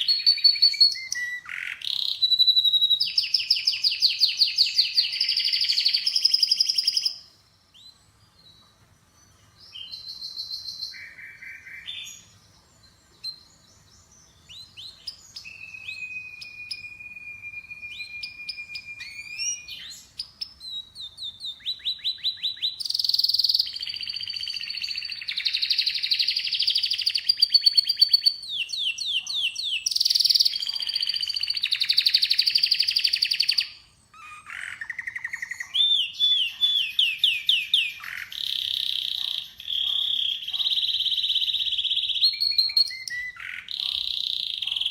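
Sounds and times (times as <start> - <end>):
canary singing trills: 0.0 - 8.6, 9.2 - 44.9.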